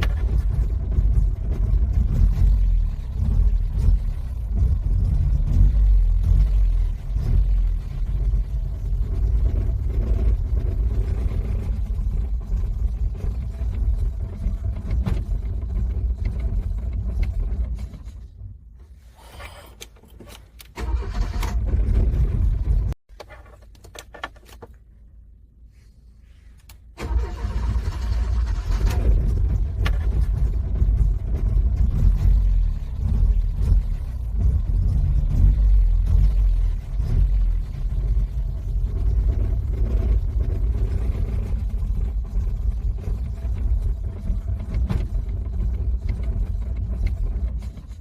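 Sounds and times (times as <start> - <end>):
car engine cranking: 0.0 - 24.8, 26.6 - 48.0.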